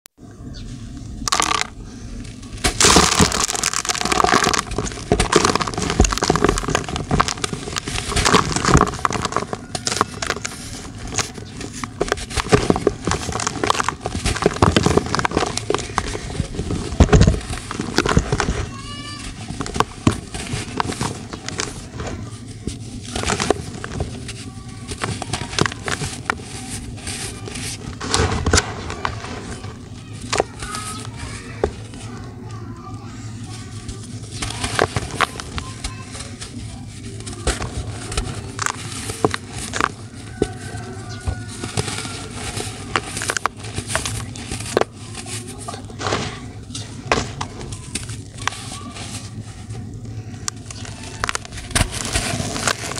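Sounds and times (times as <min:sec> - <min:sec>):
powder sifting between fingers: 0:00.7 - 0:52.9
hands crushing dry lumps: 0:01.1 - 0:32.5, 0:33.4 - 0:52.9.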